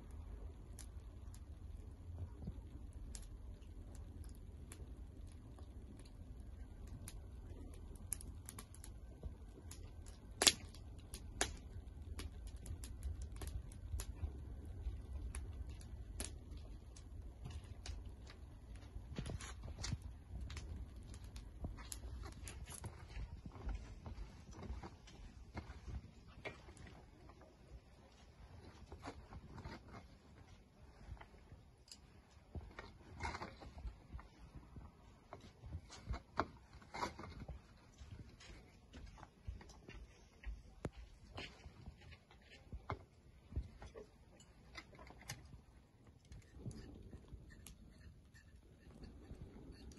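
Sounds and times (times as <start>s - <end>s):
low steady rumble: 0.0s - 49.9s
wood fire crackling and popping: 0.0s - 49.9s.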